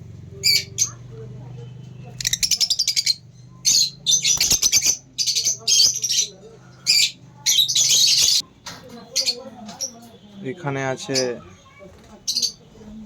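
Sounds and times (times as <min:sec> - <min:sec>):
lovebirds chirping: 0:00.2 - 0:13.0.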